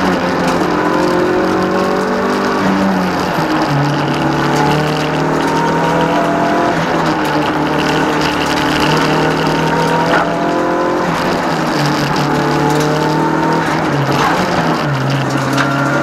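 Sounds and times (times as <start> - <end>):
car engine at full throttle: 0.0 - 16.0
gear shift click: 0.0 - 16.0.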